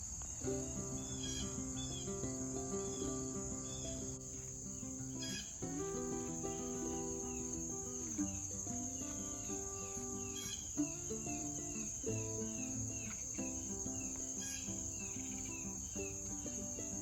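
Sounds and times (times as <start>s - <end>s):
insect trill: 0.0s - 17.0s
instrumental background music: 0.5s - 17.0s.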